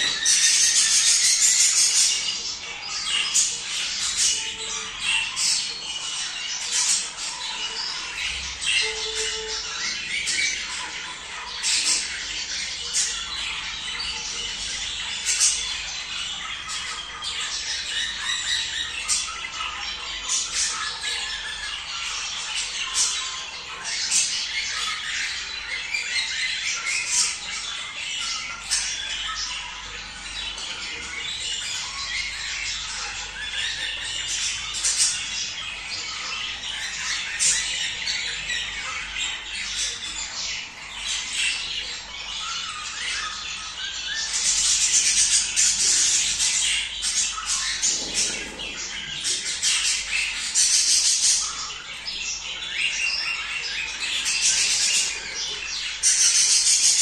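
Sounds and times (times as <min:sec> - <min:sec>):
budgerigars chattering and squawking: 0:00.0 - 0:57.0.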